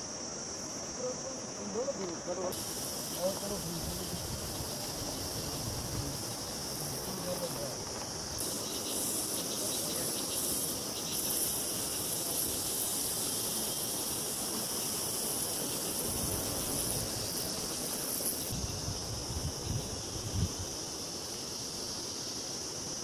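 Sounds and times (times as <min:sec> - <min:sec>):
insects buzzing: 0:00.0 - 0:23.0.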